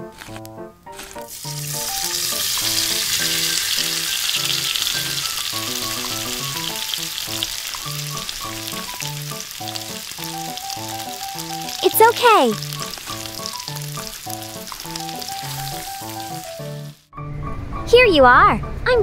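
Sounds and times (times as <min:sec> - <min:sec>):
simple background melody: 0:00.0 - 0:19.0
chicken deep-frying in oil: 0:00.2 - 0:17.1.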